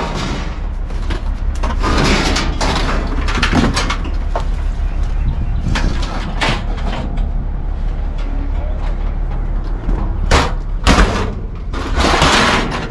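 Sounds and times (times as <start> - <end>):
scrap metal clanking into dumpster: 0.0 - 4.4, 5.6 - 12.9
low rumble: 0.0 - 12.9.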